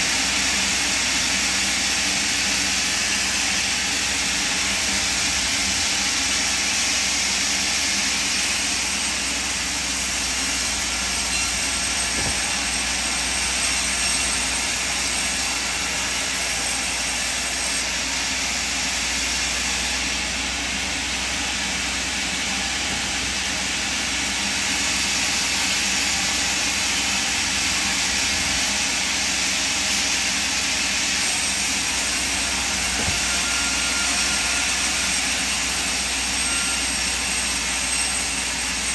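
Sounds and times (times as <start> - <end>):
band saw cutting timber: 0.0 - 38.9.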